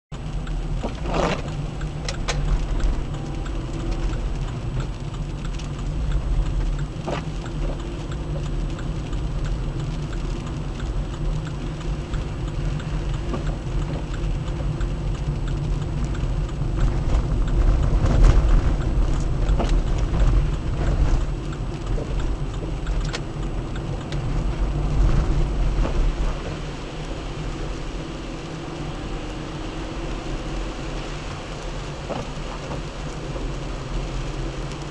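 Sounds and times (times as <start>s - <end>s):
engine and road rumble: 0.1s - 34.9s
light rain ticks: 0.1s - 34.9s.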